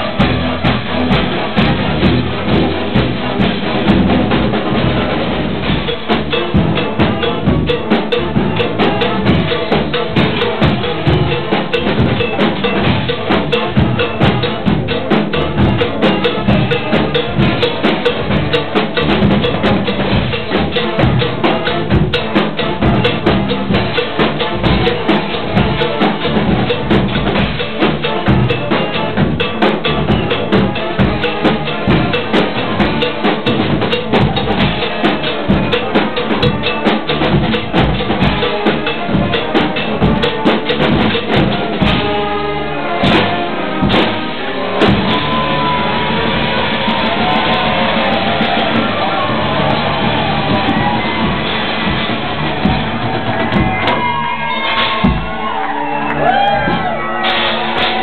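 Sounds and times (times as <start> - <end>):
bass drum and snare beat: 0.0 - 58.0.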